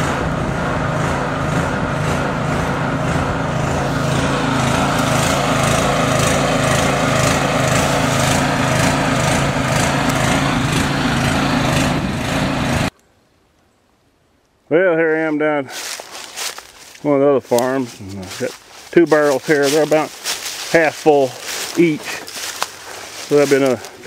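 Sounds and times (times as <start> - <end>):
engine running steadily: 0.0 - 12.9, 17.5 - 24.0.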